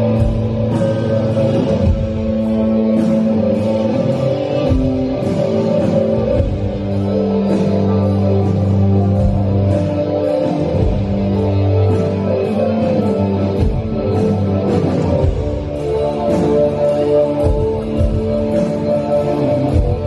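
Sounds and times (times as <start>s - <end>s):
live band music: 0.0s - 20.0s.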